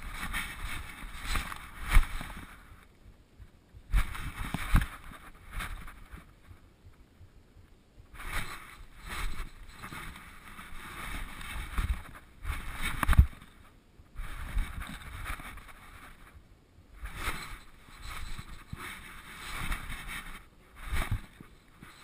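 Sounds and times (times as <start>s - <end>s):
camera rubbing against fur: 0.0s - 2.9s, 3.9s - 6.7s, 8.1s - 16.4s, 17.0s - 22.0s.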